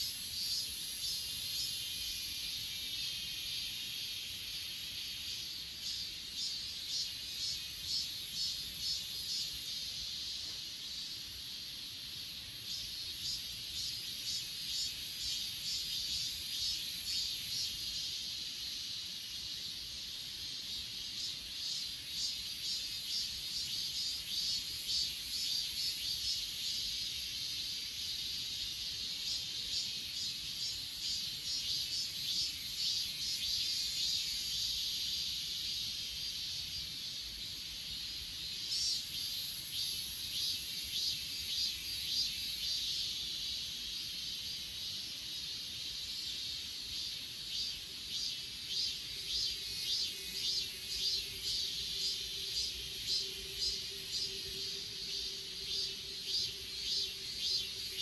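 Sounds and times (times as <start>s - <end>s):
crickets chirping in trills: 0.0s - 58.0s
high-pitched insect hiss: 0.0s - 58.0s.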